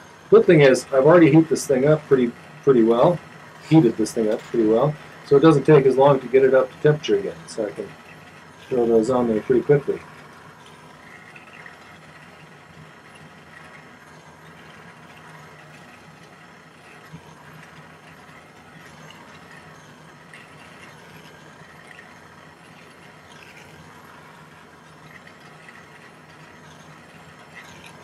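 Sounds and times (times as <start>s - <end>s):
gas torch flame hissing: 0.0s - 28.0s.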